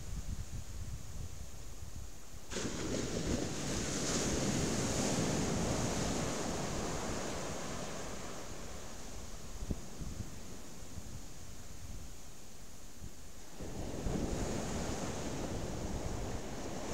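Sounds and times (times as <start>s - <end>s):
wind buffeting microphone: 0.0s - 12.2s, 13.0s - 16.9s
surf washing up a beach: 2.4s - 16.9s.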